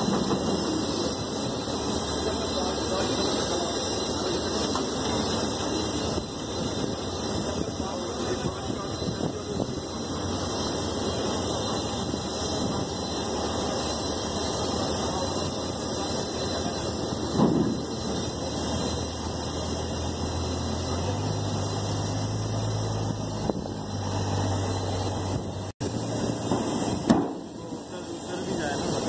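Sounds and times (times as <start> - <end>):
deeper hum: 0.0 - 29.0
machine noise with high whine: 0.0 - 29.0.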